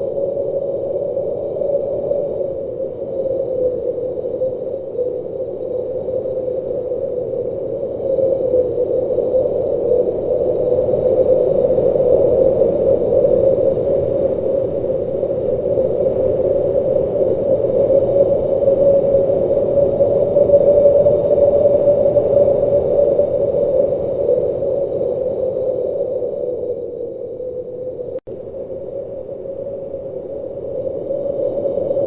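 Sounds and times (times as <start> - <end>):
blizzard wind blowing: 0.0 - 32.0.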